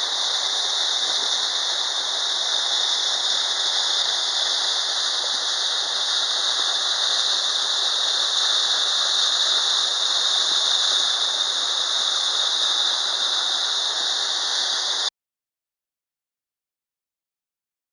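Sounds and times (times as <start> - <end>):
waterfall rushing: 0.0 - 15.1.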